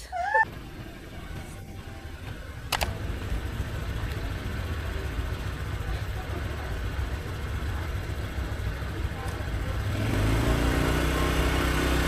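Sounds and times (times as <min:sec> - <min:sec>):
motor vehicle low rumble: 0:00.0 - 0:12.0.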